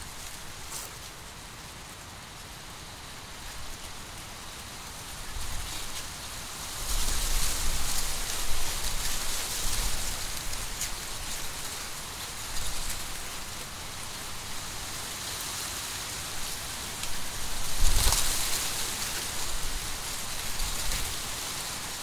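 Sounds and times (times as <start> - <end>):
wind rustling dry corn leaves: 0.0 - 22.0.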